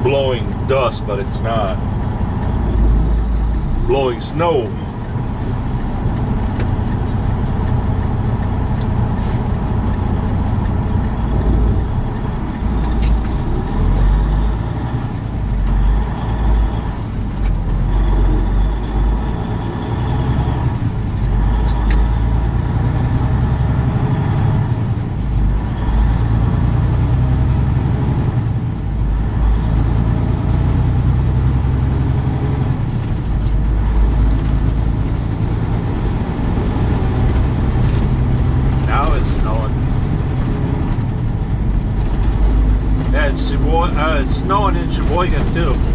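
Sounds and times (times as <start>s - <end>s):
truck engine and road noise: 0.0s - 45.9s.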